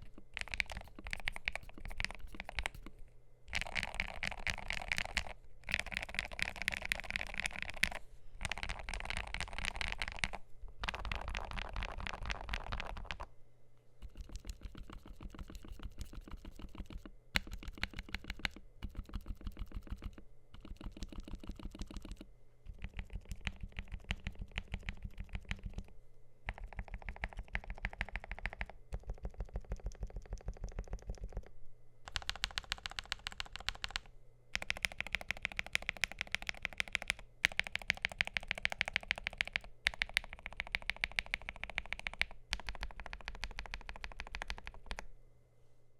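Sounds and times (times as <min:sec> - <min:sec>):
keyboard keystroke clicks: 0:00.0 - 0:02.9, 0:03.5 - 0:13.2, 0:14.0 - 0:25.9, 0:26.5 - 0:31.5, 0:32.1 - 0:45.1.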